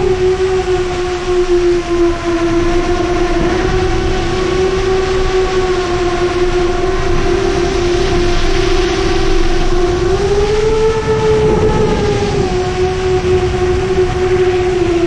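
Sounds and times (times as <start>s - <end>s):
drone motors humming: 0.0s - 15.0s
wind rushing: 2.1s - 15.0s.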